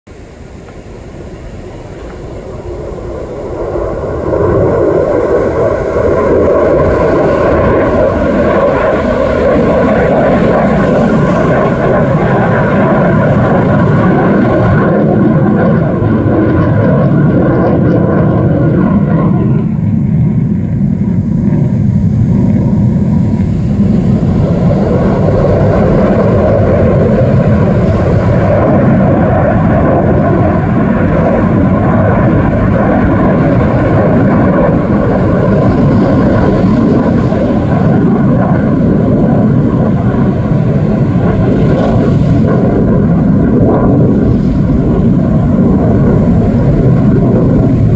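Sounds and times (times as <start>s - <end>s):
fighter jet flying overhead: 0.1s - 47.9s.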